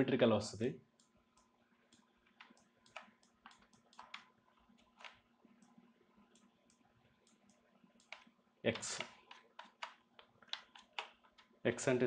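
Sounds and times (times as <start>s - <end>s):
mouse and keyboard clicks: 1.0s - 11.5s.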